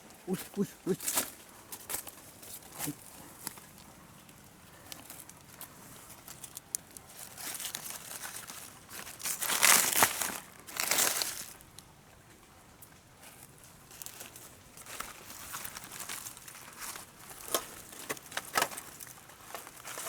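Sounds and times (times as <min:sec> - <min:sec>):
crinkling and rustling handling noise: 0:00.0 - 0:20.0.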